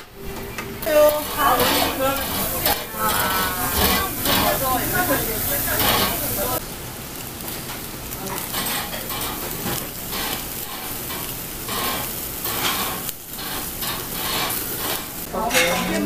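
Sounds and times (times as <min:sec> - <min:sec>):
meat sizzling on a grill: 0:00.1 - 0:16.0.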